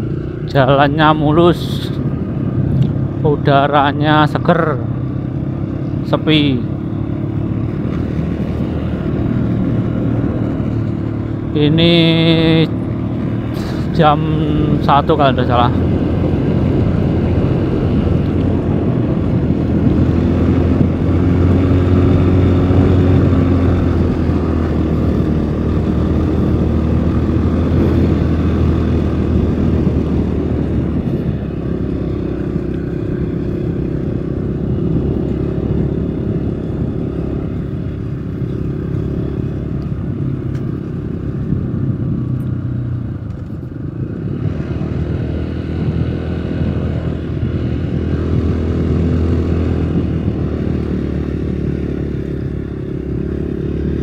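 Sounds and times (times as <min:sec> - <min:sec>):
vehicle engine running: 0:00.0 - 0:54.0
wind and tyre noise: 0:00.0 - 0:54.0.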